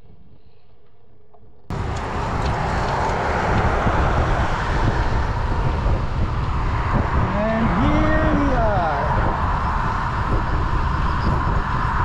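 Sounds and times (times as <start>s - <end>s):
road noise from bicycle: 1.7s - 12.0s
traffic: 1.7s - 12.0s
wind noise: 1.7s - 12.0s.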